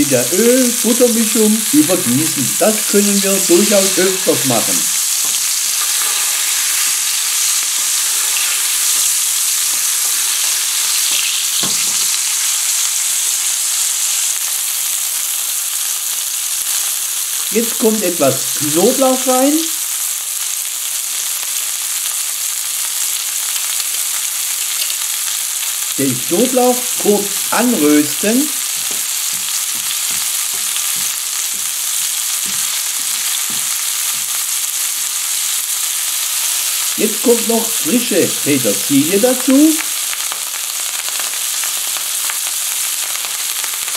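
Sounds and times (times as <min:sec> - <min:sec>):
oil sizzling in a frying pan: 0:00.0 - 0:43.9.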